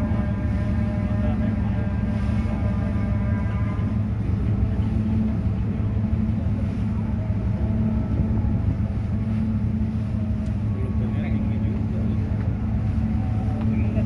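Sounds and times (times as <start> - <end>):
ship diesel engines droning: 0.0 - 14.0.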